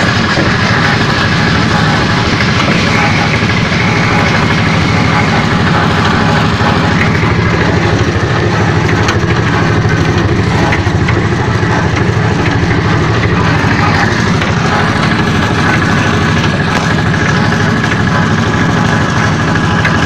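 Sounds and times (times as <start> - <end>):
broad noise: 0.0 - 20.0
vehicle engine running: 0.0 - 20.0.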